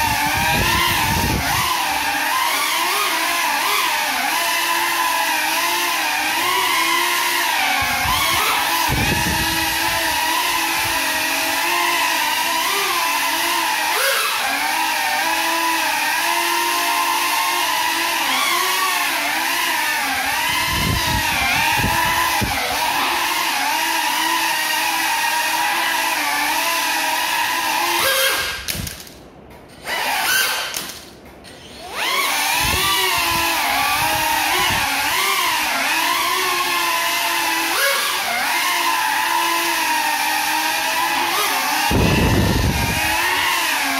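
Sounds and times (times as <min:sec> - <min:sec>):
quadcopter propellers whining: 0:00.0 - 0:28.8, 0:31.6 - 0:43.9.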